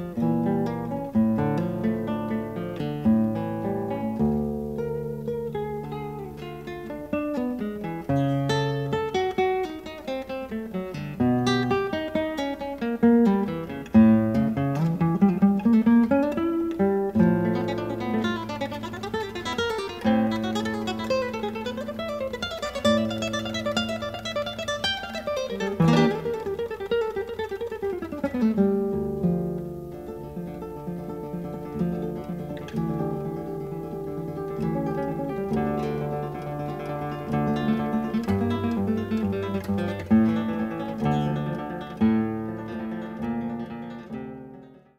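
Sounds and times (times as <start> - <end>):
acoustic guitar music: 0.0 - 44.9.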